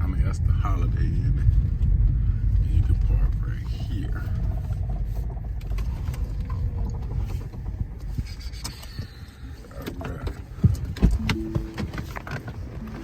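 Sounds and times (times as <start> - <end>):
car rumbling from inside: 0.0 - 13.0.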